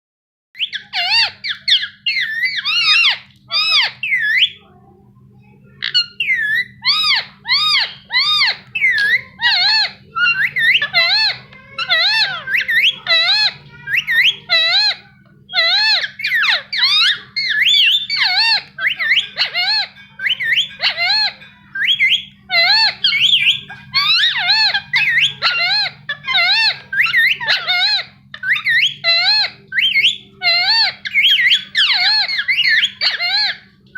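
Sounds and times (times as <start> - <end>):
parakeet chirping: 0.6 - 4.8, 5.6 - 33.9.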